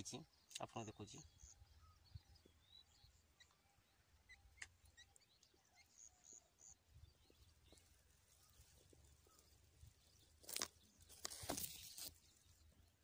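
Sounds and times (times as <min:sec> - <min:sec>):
quail chicks peeping: 0:00.0 - 0:13.0.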